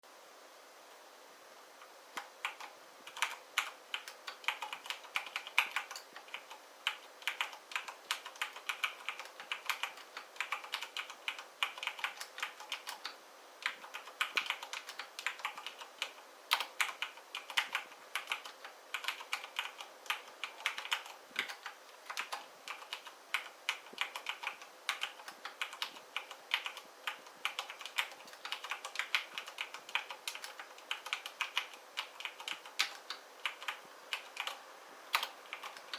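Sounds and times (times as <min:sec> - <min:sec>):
mechanical keyboard typing: 0:02.2 - 0:35.9.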